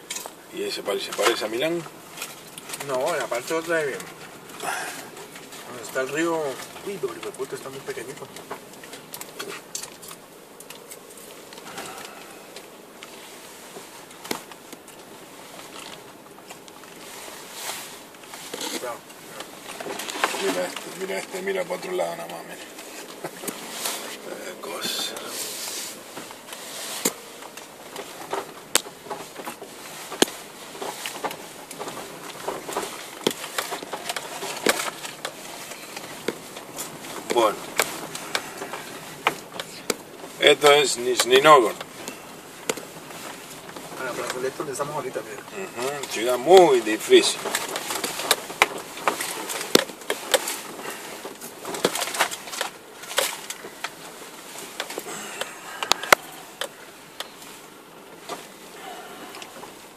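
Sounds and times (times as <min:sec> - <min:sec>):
vehicle road noise hiss: 0:00.0 - 0:59.9.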